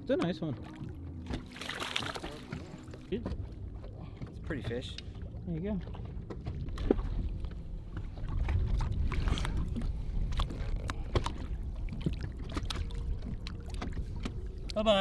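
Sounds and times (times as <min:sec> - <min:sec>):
water splashing and sloshing: 0:00.0 - 0:15.0
steady low rumble: 0:02.4 - 0:15.0.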